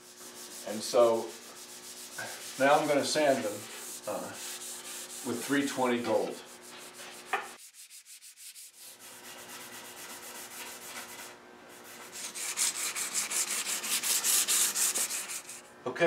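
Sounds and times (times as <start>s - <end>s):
sandpaper scraping wood: 0.0s - 15.7s.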